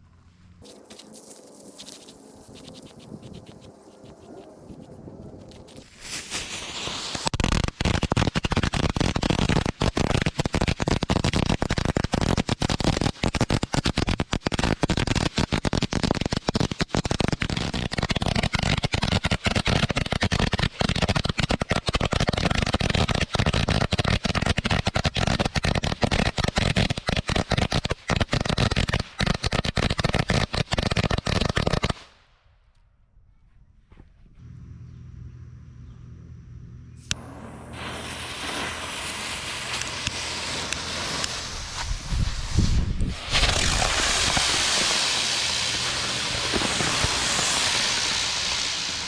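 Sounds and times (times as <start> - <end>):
firecrackers popping: 0.6 - 32.2, 37.1 - 49.0.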